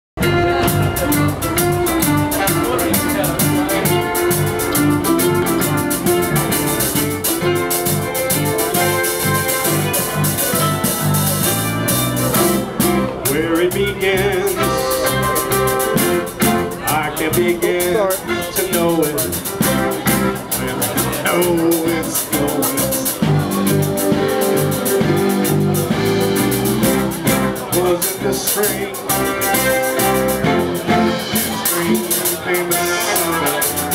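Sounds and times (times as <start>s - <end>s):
live band playing: 0.2s - 33.9s.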